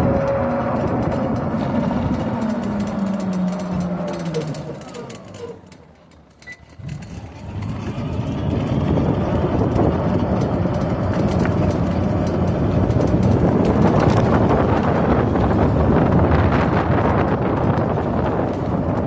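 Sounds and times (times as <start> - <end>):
wind noise on microphone: 0.0 - 5.7, 6.7 - 19.0
rolling rumble: 0.0 - 19.0.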